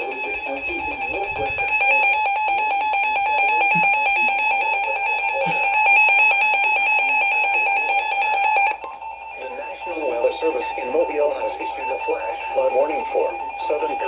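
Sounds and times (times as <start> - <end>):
pulsing electronic alarm tone: 0.0 - 14.0.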